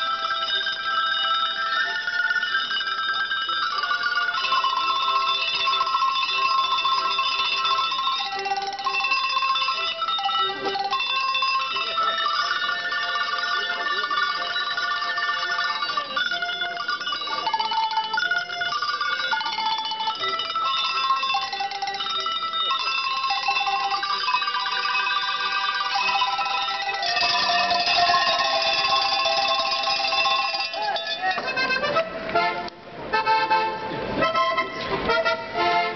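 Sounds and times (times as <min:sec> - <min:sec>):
handbells ringing a melody: 0:00.0 - 0:32.1.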